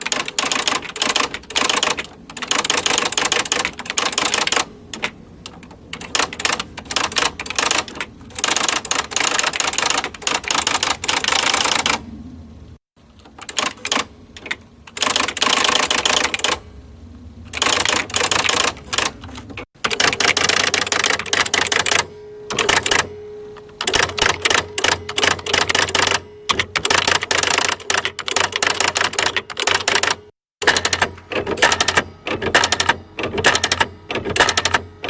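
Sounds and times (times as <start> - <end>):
typewriter keystrikes: 0.0 - 12.0, 13.2 - 16.6, 17.5 - 23.1, 23.8 - 35.0
typewriter motor hum: 0.0 - 12.0, 13.2 - 16.7, 17.5 - 23.1, 23.7 - 35.0.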